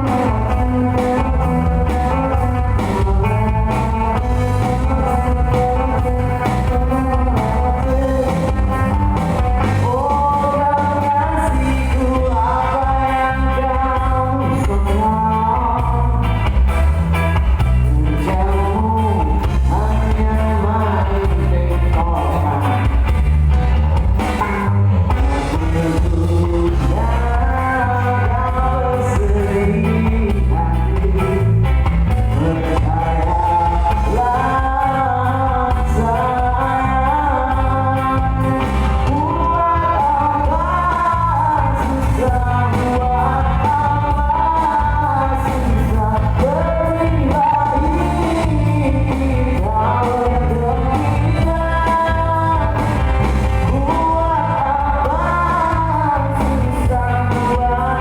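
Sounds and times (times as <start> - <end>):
heavy bass line: 0.0 - 58.0
lead vocalist singing: 0.0 - 58.0
live pop-rock band: 0.0 - 58.0.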